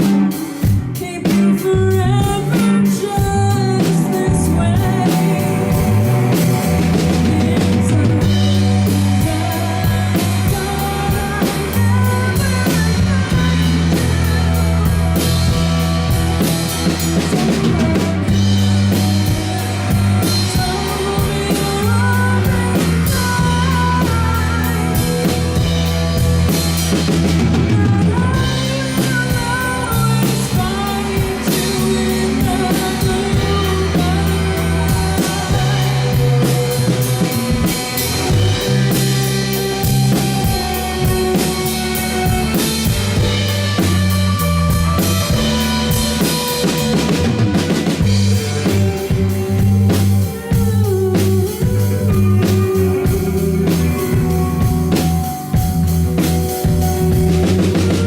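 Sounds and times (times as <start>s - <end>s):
drum kit beat: 0.0s - 58.0s
electric guitar lead: 0.0s - 58.0s
heavy bass line: 0.0s - 58.0s.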